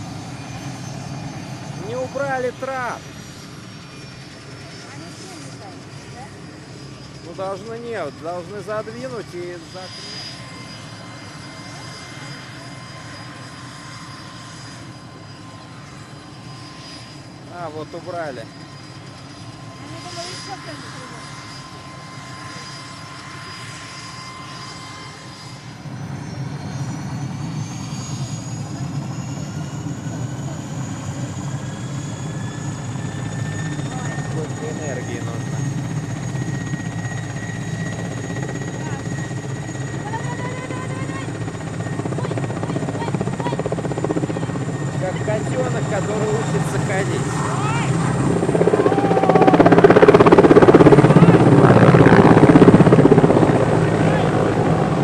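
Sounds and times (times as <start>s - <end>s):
helicopter engine low drone: 0.0s - 55.0s
high turbine whine: 0.0s - 55.0s.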